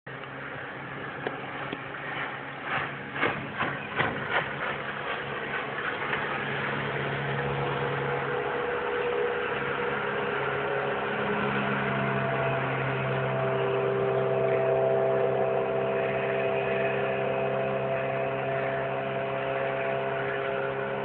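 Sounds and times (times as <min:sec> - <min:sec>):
motorboat engine running: 0:00.1 - 0:21.0.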